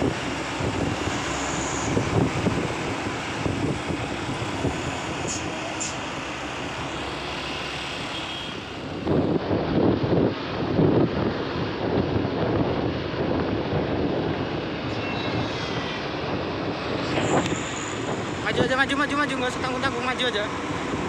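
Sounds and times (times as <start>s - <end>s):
heavy truck engine: 0.0s - 21.0s
road traffic noise: 0.0s - 21.0s
wind buffeting microphone: 0.0s - 21.0s.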